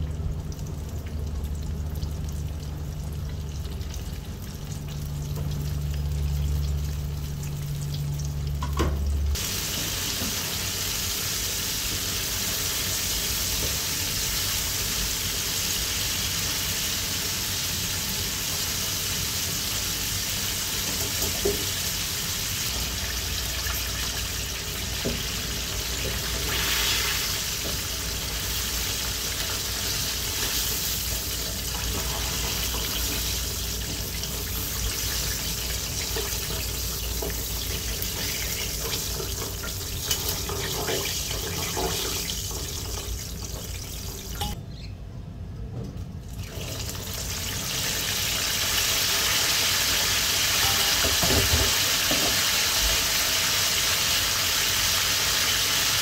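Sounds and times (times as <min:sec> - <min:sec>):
oil sizzling and bubbling: 0:00.0 - 0:44.9, 0:46.2 - 0:56.0.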